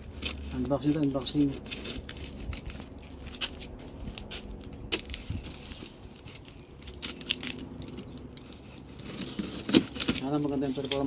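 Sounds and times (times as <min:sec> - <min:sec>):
tape and cardboard crinkling: 0:00.0 - 0:11.0.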